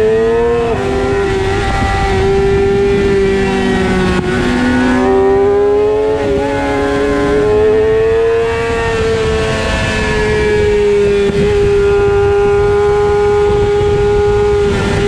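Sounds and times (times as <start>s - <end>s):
motorcycle engine at high revs: 0.0s - 15.0s
wind rush on microphone: 0.0s - 15.0s.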